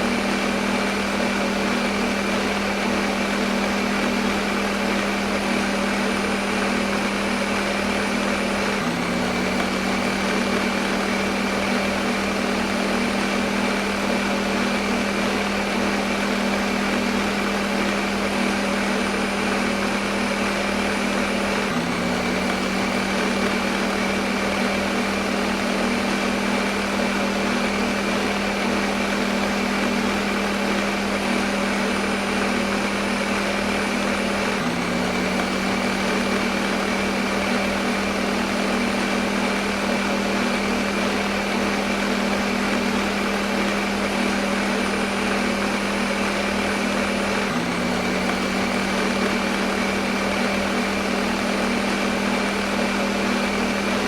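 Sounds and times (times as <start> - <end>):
blender motor whirring: 0.0 - 54.0.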